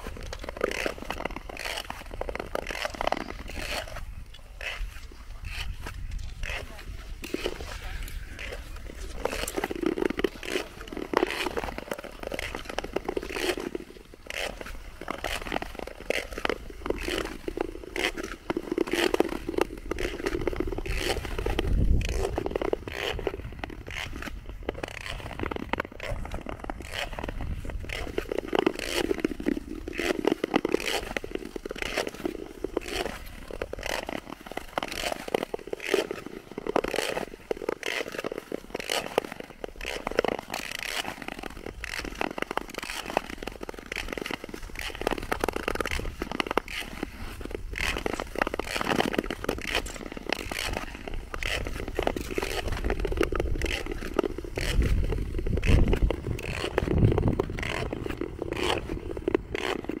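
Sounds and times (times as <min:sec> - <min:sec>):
skate blades scraping on ice: 0:00.0 - 1:00.0.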